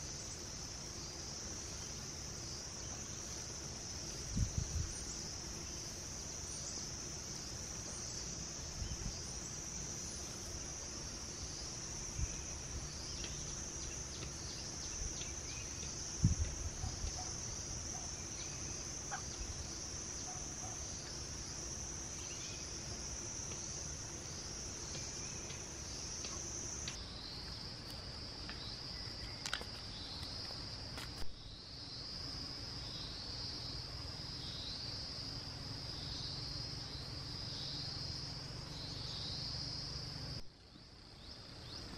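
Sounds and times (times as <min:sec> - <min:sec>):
crickets droning: 0:00.0 - 0:41.9.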